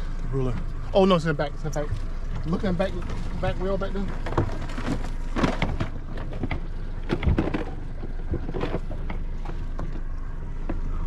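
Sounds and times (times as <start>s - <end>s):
water noise: 0.0s - 11.0s
wind: 0.0s - 11.0s.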